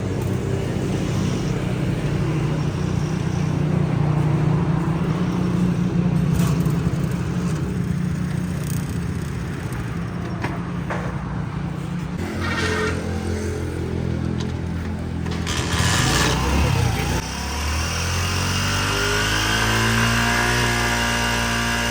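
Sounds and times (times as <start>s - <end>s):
motorcycle engine running: 0.0s - 10.4s, 14.7s - 21.9s.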